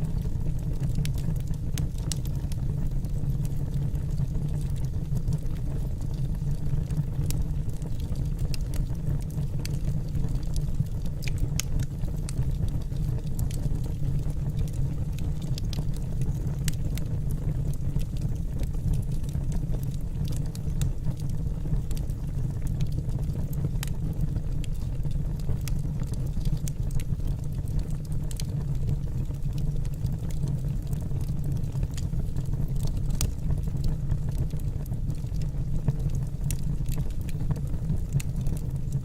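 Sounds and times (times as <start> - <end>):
logs crackling and popping: 0.0 - 39.0
low rumble of flames: 0.0 - 39.0.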